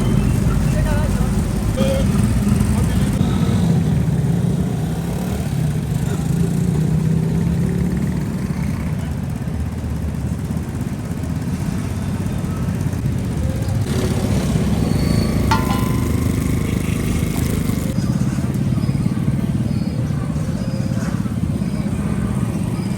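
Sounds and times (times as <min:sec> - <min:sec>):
voices: 0:00.0 - 0:09.5, 0:11.4 - 0:22.9
street traffic rumble: 0:00.0 - 0:22.9.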